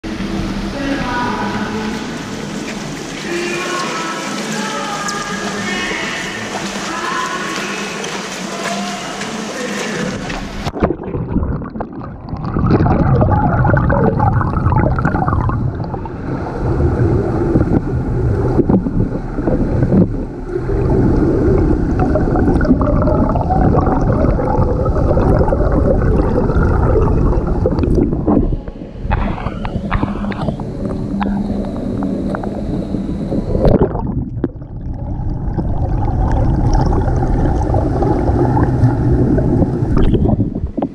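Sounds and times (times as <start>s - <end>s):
underwater churning and gurgling: 0.0s - 40.9s.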